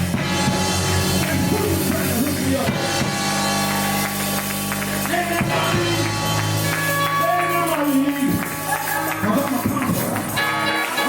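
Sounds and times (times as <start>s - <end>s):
bass line: 0.0s - 11.0s
drum kit: 0.0s - 11.0s
keyboard chords: 0.0s - 11.0s
melodic line: 0.2s - 11.0s.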